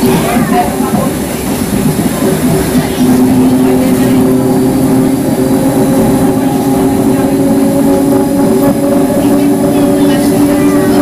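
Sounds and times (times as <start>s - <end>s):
electric train motor hum: 0.0s - 11.0s.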